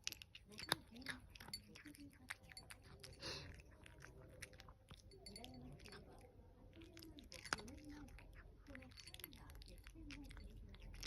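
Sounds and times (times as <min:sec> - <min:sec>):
cat crunching food: 0:00.0 - 0:11.0.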